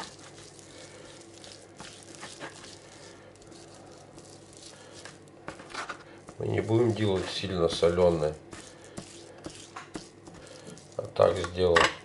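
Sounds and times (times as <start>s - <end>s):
hands rubbing pork fat: 0.0s - 11.7s
faint steady hum: 0.0s - 12.0s.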